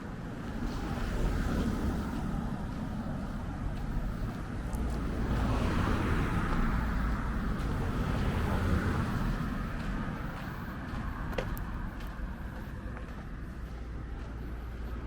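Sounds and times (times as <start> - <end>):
low traffic rumble: 0.0 - 15.0
vehicle passing by: 0.0 - 15.0.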